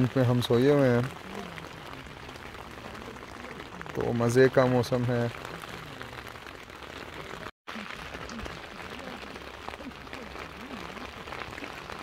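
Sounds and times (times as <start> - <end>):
rain on a tent: 0.0 - 12.0.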